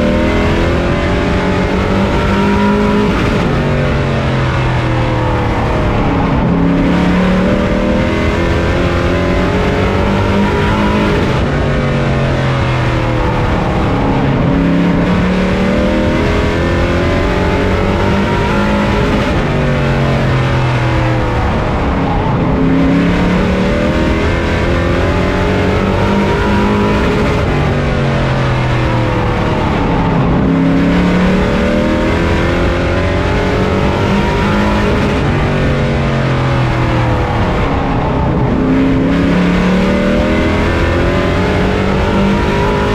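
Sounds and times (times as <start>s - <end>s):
race truck engine revving: 0.0s - 42.9s.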